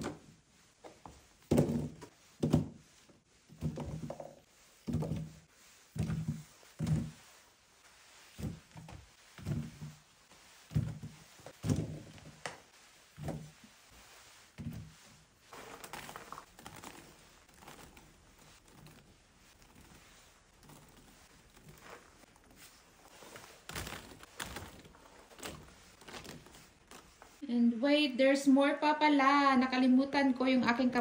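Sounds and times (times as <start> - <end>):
soft rustling: 0.0 - 27.4.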